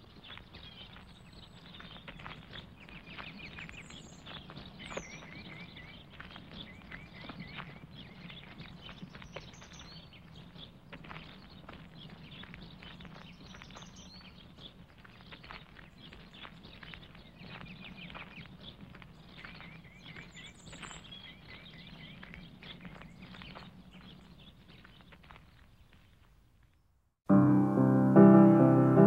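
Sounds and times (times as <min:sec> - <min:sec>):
birds chirping: 0:00.0 - 0:25.8.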